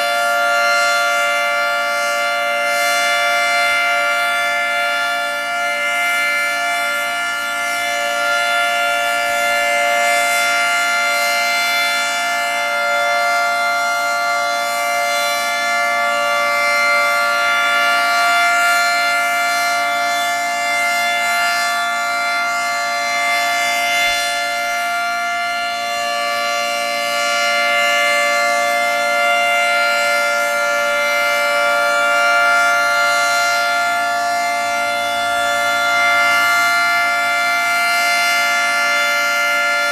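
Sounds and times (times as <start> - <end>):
dual-tone rotating siren: 0.0 - 39.9.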